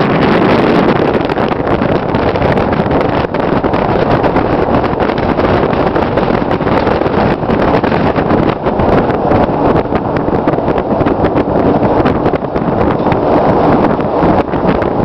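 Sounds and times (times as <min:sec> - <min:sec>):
vehicle and road noise: 0:00.0 - 0:15.0
wind rushing over microphone: 0:00.0 - 0:15.0.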